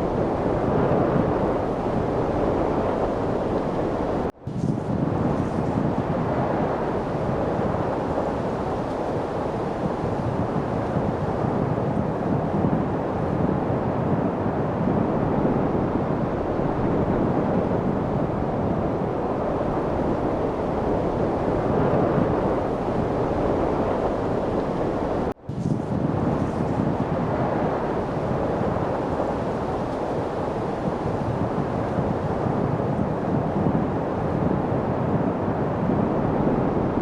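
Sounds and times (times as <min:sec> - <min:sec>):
light wind blowing: 0:00.0 - 0:37.0.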